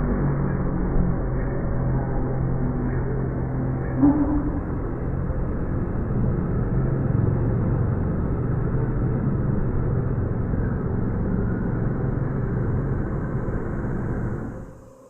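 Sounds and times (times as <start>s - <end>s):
muffled low rumble: 0.0s - 14.9s.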